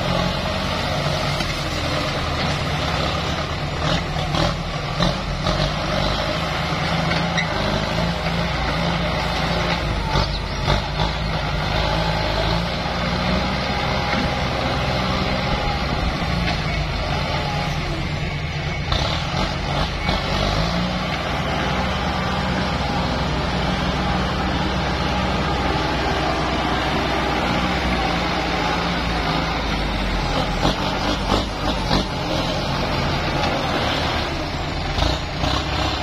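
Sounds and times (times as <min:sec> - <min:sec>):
tractor diesel engine working: 0:00.0 - 0:36.0.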